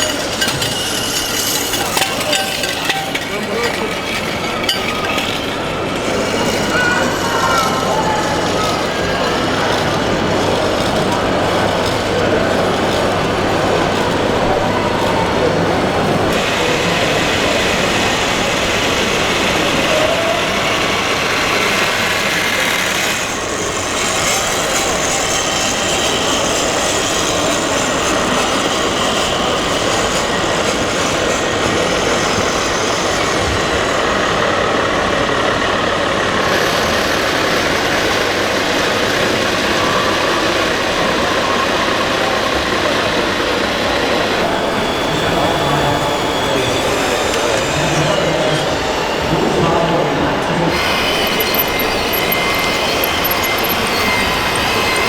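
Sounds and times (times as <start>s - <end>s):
model tractor engines running: 0.0s - 55.0s.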